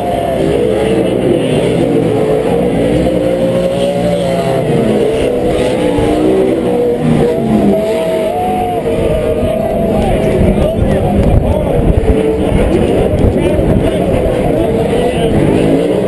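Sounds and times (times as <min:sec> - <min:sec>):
race truck engines revving: 0:00.0 - 0:16.0.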